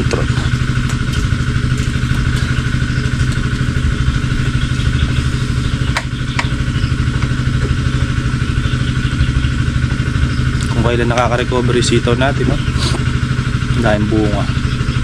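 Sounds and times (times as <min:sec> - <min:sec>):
small motorcycle engine running: 0:00.0 - 0:15.0.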